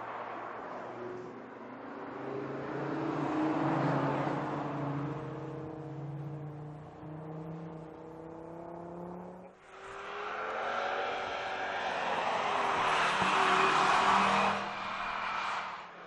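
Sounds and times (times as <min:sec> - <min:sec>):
road noise: 0:00.0 - 0:16.0
car engine accelerating: 0:02.8 - 0:15.8.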